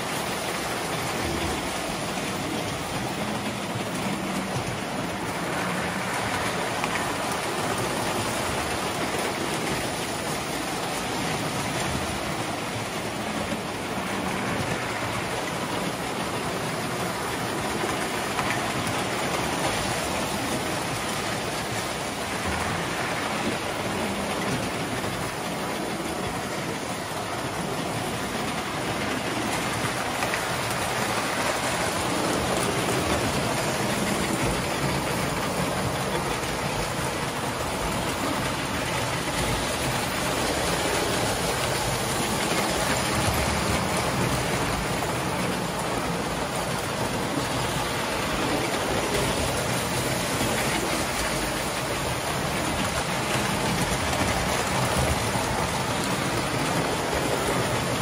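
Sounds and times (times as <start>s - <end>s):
toy trains rumbling on metal track: 0.0s - 58.0s.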